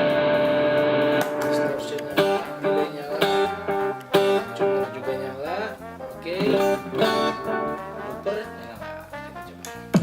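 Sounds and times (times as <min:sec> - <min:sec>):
electric guitar playing: 0:00.0 - 0:09.9.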